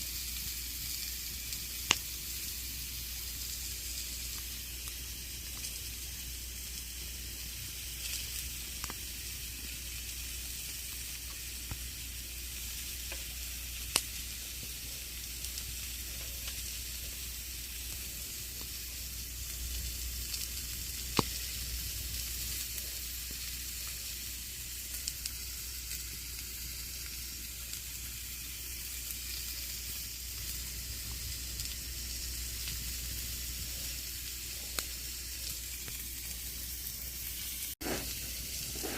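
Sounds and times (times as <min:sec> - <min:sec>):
campfire crackling: 0:00.0 - 0:38.9
burning wood popping: 0:00.1 - 0:38.9.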